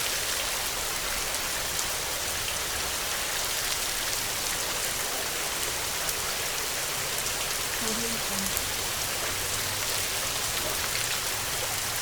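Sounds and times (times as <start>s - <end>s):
heavy rain falling: 0.1s - 12.0s.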